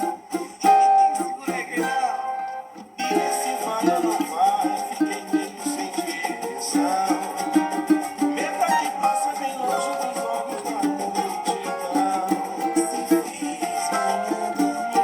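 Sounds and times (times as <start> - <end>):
small guitar strumming: 0.0 - 15.0.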